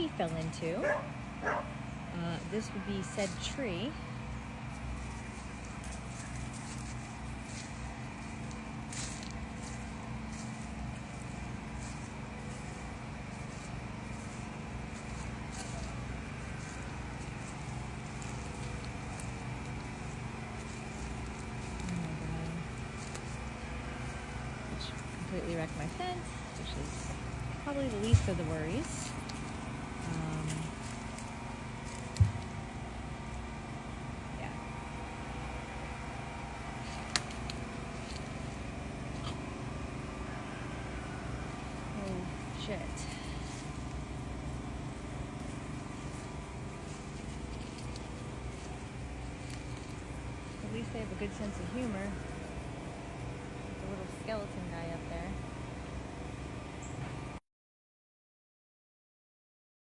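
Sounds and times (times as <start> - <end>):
motor humming: 0.0 - 57.3.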